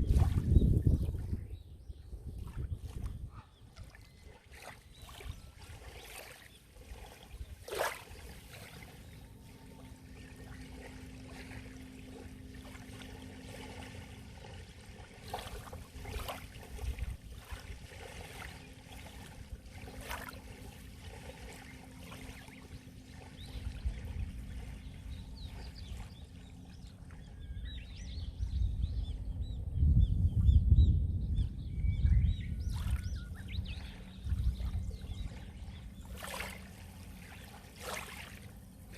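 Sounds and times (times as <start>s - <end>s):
low wind rumble: 0.0s - 6.0s, 6.7s - 37.6s
water lapping at shore: 0.0s - 29.2s, 32.0s - 38.9s
birds chirping: 3.2s - 38.9s
faint steady hum: 5.1s - 38.9s.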